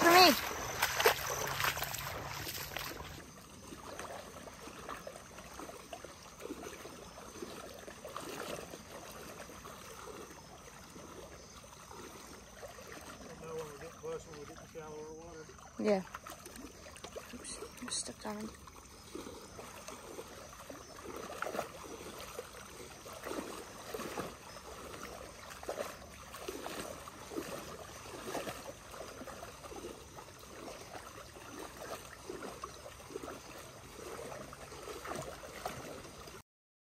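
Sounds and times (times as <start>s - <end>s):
water sloshing and splashing: 0.0s - 36.4s.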